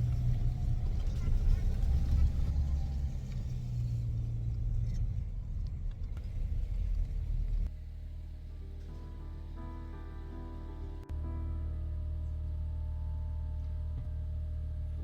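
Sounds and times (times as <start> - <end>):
low steady rumble: 0.0 - 15.0
quieter hum: 0.0 - 15.0.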